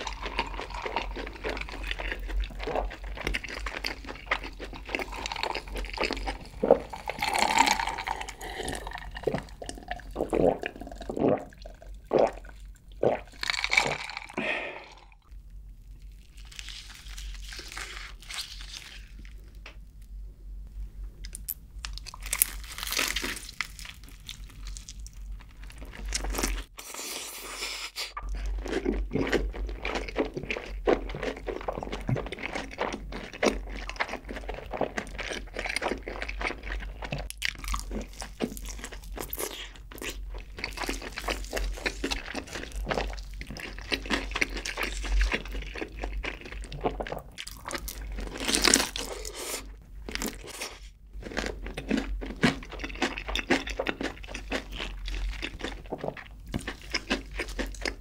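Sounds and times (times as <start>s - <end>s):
crunching fried chicken: 0.0s - 11.0s, 12.2s - 15.1s, 15.7s - 19.6s, 21.8s - 58.0s.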